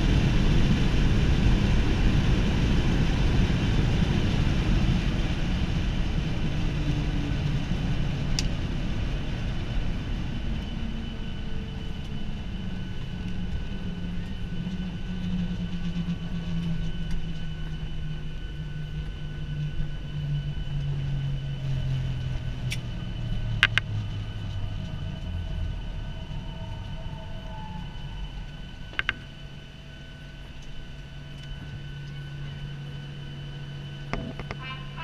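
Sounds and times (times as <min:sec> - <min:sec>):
engine and runway rumble: 0:00.0 - 0:35.0
steady hum: 0:00.0 - 0:35.0.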